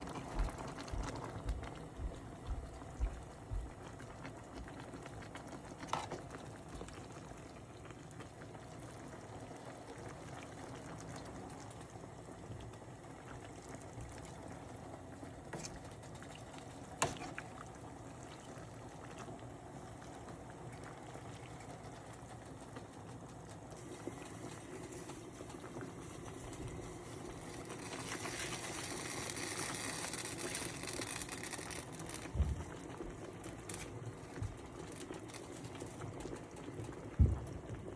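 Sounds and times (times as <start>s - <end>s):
soup bubbling at a boil: 0.0s - 37.9s.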